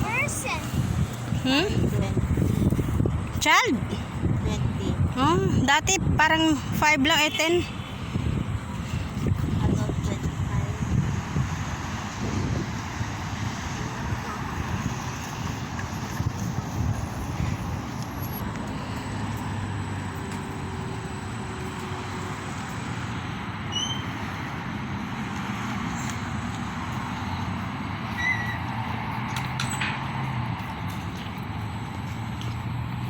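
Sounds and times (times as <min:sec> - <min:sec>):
traffic rumble and hum: 0:00.0 - 0:33.0.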